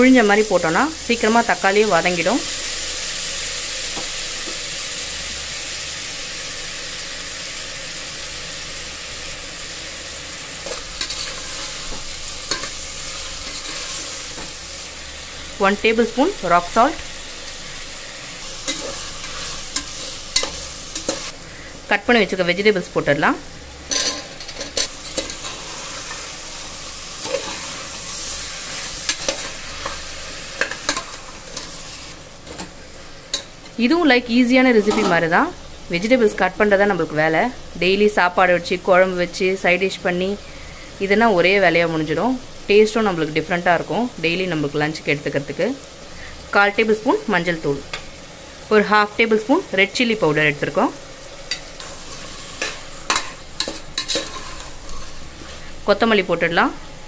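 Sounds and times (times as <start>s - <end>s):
vegetables sizzling in oil: 0.0s - 57.0s.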